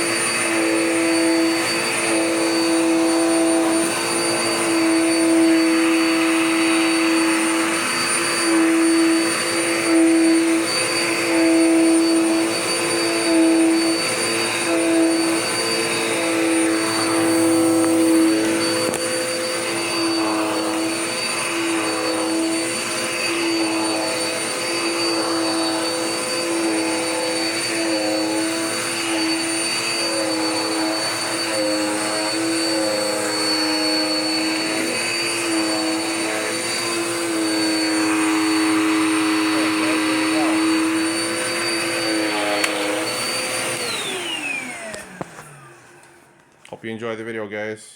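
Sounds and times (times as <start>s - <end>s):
vacuum cleaner running: 0.0s - 46.7s.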